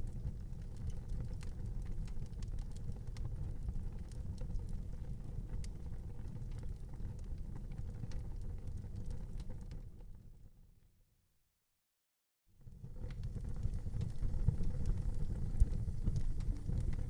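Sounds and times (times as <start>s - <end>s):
fire popping and crackling: 0.0s - 10.2s, 12.6s - 17.0s
wood fire rumbling: 0.0s - 10.5s, 12.6s - 17.0s.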